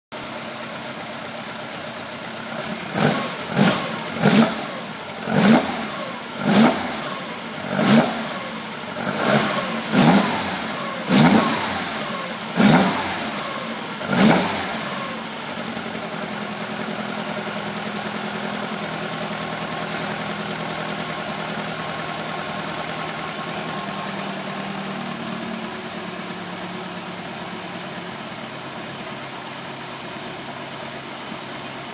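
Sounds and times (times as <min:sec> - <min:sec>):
car engine revving and idling: 0:00.2 - 0:31.9.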